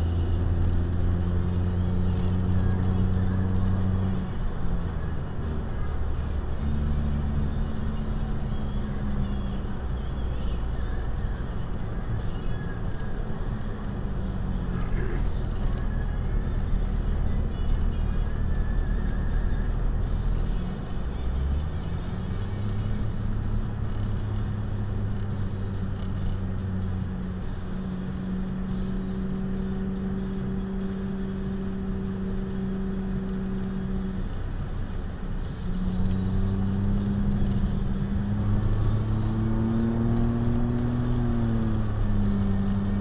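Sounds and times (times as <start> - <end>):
car engine hum: 0.0 - 43.0
road noise inside car: 0.0 - 43.0.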